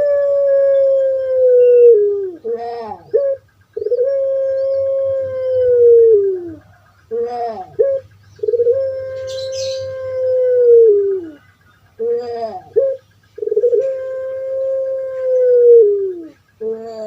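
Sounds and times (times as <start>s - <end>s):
dove singing long drawn call: 0.0s - 17.0s.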